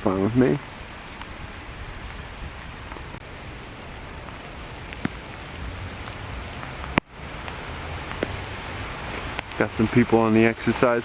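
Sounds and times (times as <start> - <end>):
raindrops ticking: 0.0 - 11.0
steady rain: 0.0 - 11.0.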